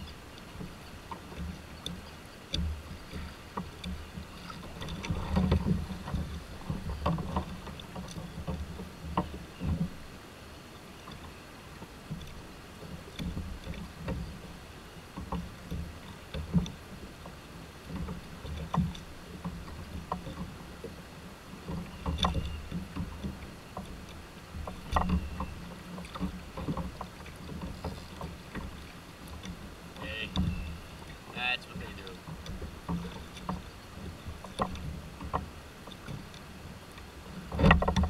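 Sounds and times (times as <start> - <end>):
waves lapping against kayak hull: 0.0 - 38.0.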